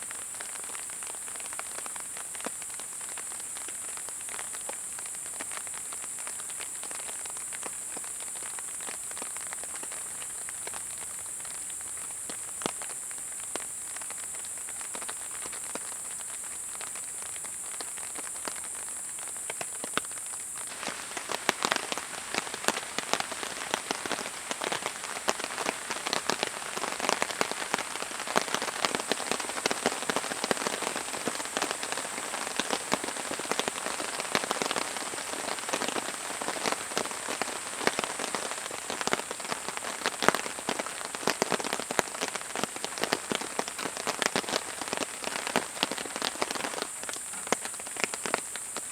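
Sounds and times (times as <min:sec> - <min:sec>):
high-pitched hiss: 0:00.0 - 0:48.9
raindrops pattering: 0:00.0 - 0:48.9.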